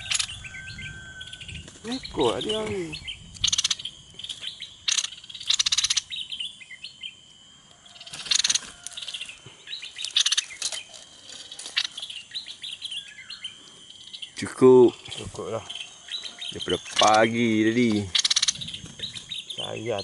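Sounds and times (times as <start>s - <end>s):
fast rattling bird notes: 0.0s - 6.5s, 7.9s - 13.1s, 14.0s - 20.0s
small birds chirping: 0.0s - 20.0s.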